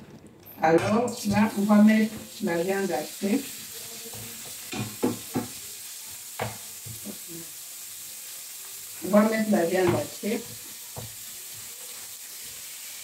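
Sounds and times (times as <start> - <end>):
meat sizzling in a frying pan: 1.1 - 13.0.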